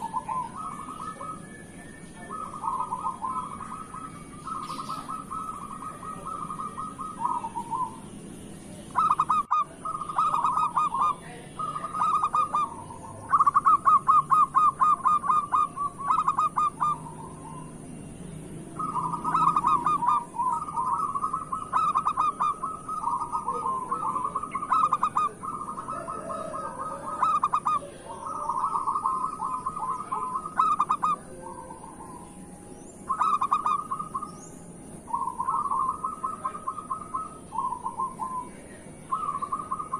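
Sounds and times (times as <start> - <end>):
dove cooing song: 0.0 - 39.9
faint high whine: 0.0 - 39.9.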